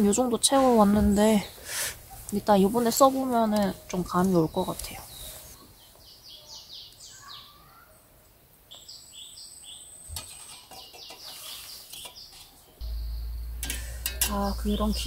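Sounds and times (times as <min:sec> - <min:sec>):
birds chirping: 0:00.0 - 0:08.0, 0:08.7 - 0:15.0.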